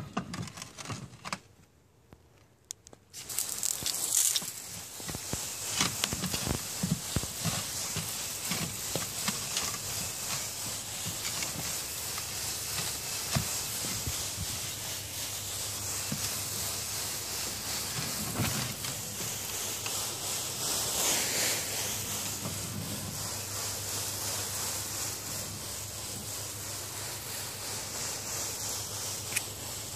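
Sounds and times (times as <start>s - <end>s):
spray hissing onto roof tiles: 3.0s - 29.9s.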